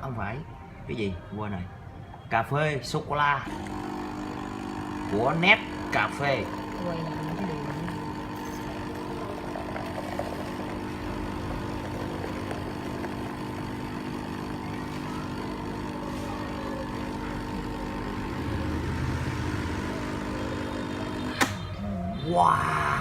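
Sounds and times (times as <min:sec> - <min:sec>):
espresso machine pump humming: 0:03.4 - 0:23.0.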